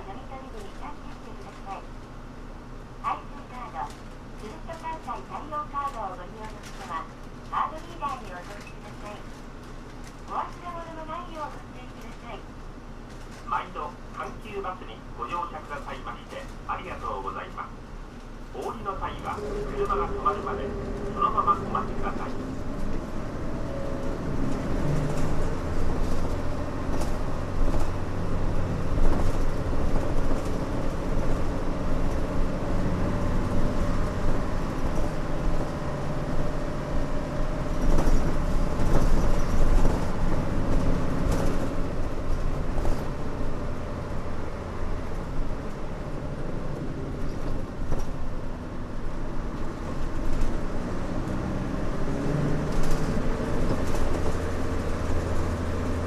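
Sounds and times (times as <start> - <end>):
bus diesel engine running: 0.0 - 56.0
road noise: 0.0 - 56.0.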